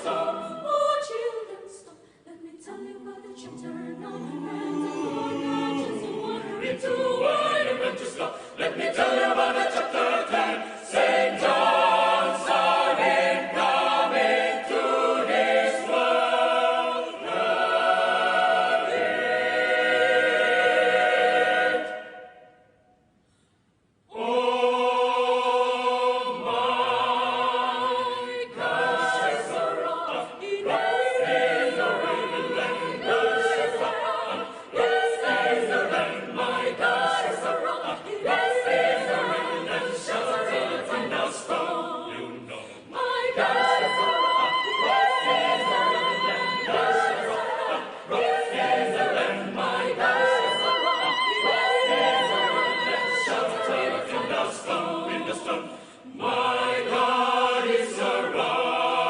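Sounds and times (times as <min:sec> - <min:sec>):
choir singing a cappella: 0:00.0 - 0:22.8, 0:24.1 - 0:59.0.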